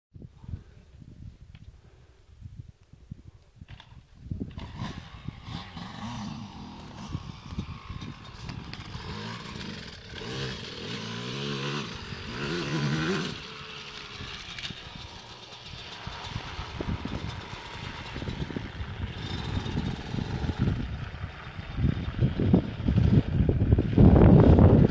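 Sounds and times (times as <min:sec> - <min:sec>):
dirt bike engine revving: 0:04.5 - 0:24.9.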